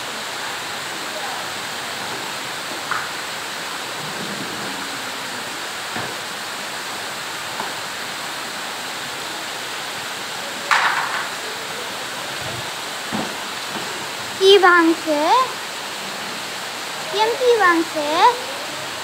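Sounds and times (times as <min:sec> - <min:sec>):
heavy rain on foliage: 0:00.0 - 0:19.0.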